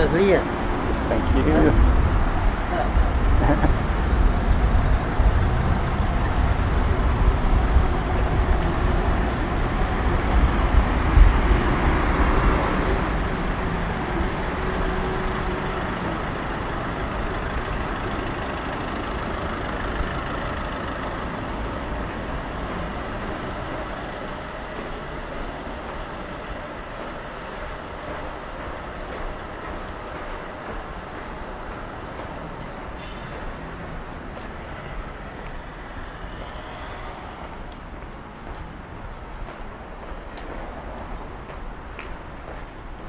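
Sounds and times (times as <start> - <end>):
cars driving past: 0.0 - 43.0.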